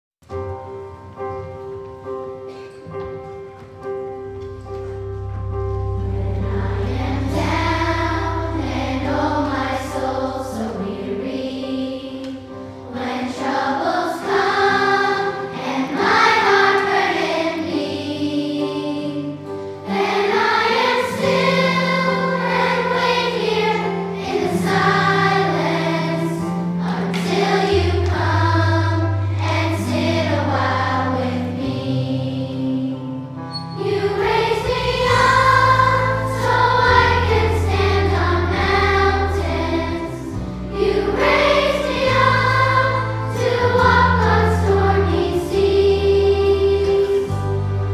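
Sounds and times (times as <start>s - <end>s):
instrumental accompaniment: 0.2s - 47.9s
children's choir singing: 5.8s - 47.9s.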